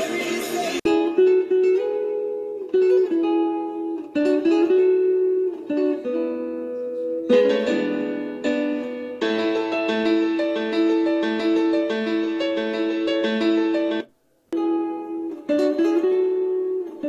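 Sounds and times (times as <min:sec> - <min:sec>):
picked acoustic guitar melody: 0:00.0 - 0:17.0.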